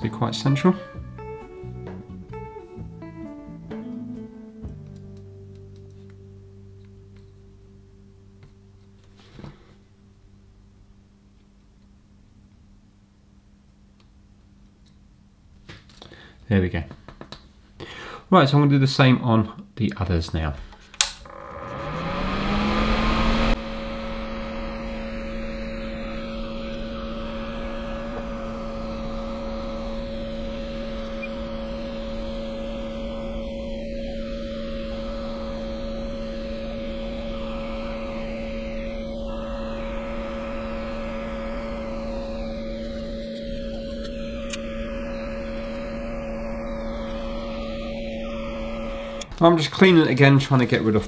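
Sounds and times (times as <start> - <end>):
electric fan motor humming: 0.0 - 16.6, 20.4 - 51.0.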